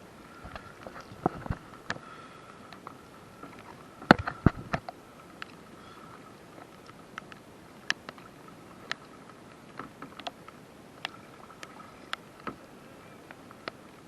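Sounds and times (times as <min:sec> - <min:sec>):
rush of moving water: 0:00.0 - 0:14.0.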